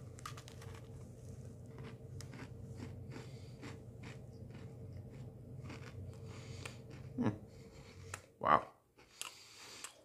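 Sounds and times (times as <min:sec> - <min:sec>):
person chewing crisp cookie: 0:00.0 - 0:08.3, 0:09.0 - 0:10.0
steady low hum: 0:00.0 - 0:10.0.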